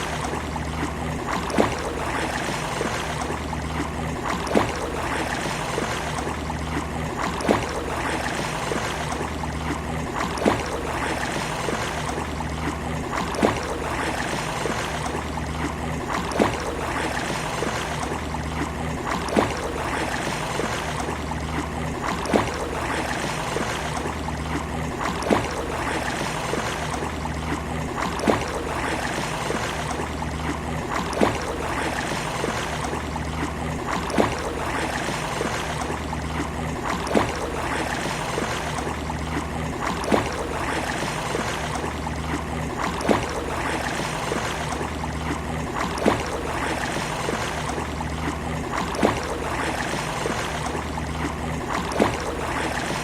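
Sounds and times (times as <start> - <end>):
water lapping and gurgling: 0.0 - 53.0
sharp knock or splash: 1.3 - 3.2, 4.2 - 6.2, 6.8 - 9.1, 10.2 - 21.1, 22.0 - 24.1, 25.0 - 27.0, 28.0 - 33.0, 33.9 - 44.8, 45.8 - 47.8, 48.7 - 53.0.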